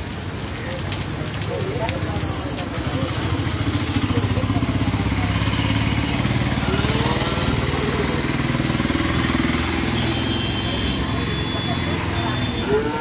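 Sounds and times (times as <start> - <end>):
rain on wet road: 0.0 - 13.0.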